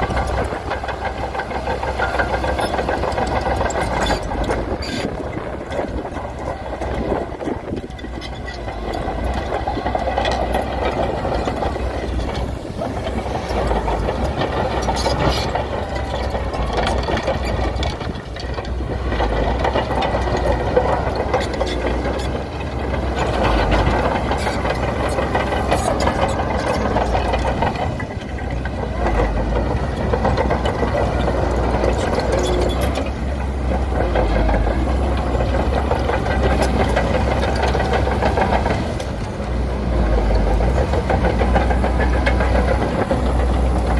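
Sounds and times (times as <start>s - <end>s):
bulldozer diesel engine running: 0.0s - 43.9s
metal clanks and rattles: 0.0s - 43.9s.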